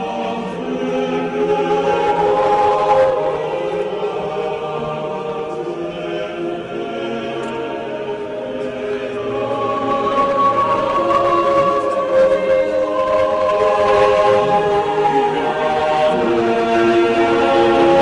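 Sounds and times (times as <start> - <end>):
choir singing long chords: 0.0 - 18.0.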